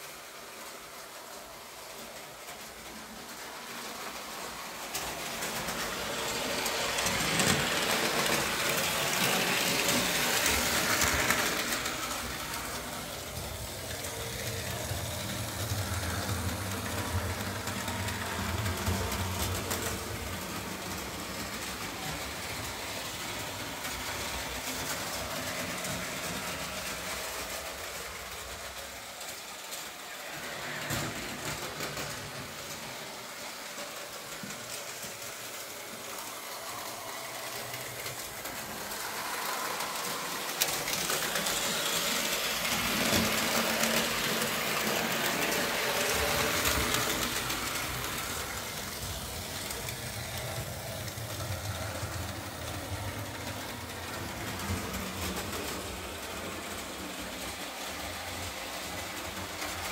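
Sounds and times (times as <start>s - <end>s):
model train wheels rattling: 1.3s - 59.9s.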